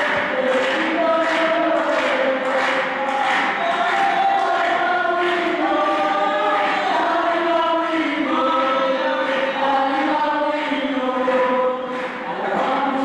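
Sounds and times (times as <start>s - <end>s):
male choir singing in harmony: 0.0s - 13.0s.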